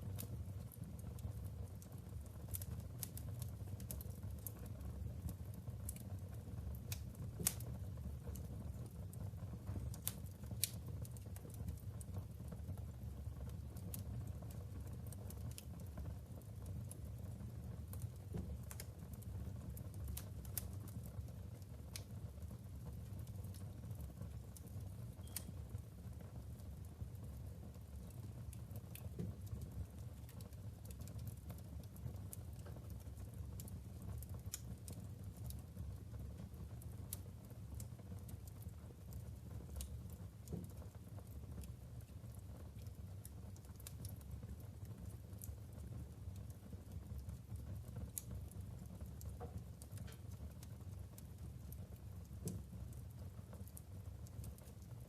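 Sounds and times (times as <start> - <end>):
fire rumbling: 0.0 - 55.0
logs crackling and popping: 0.0 - 55.0.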